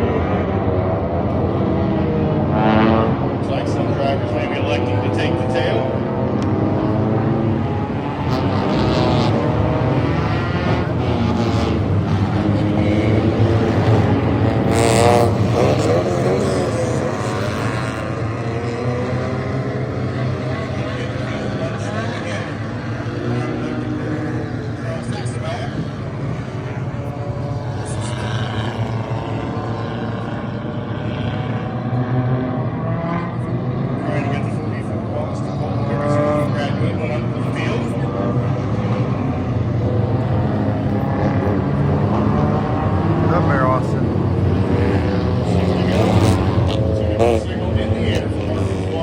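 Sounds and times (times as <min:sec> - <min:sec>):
race car engines passing: 0:00.0 - 0:49.0.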